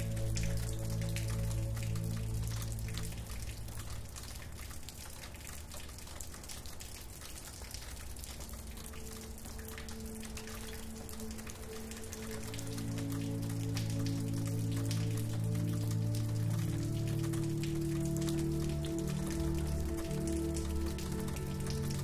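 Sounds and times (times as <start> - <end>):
soft music pad: 0.0 - 7.2, 7.8 - 22.0
rain patter: 0.0 - 22.0.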